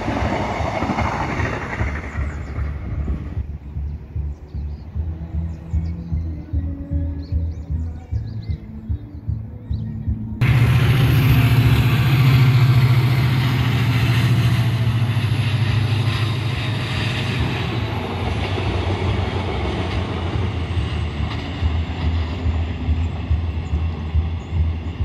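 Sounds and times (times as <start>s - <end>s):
train wheel and rail noise: 0.0s - 8.9s, 10.0s - 25.0s
diesel locomotive engine drone: 0.0s - 25.0s.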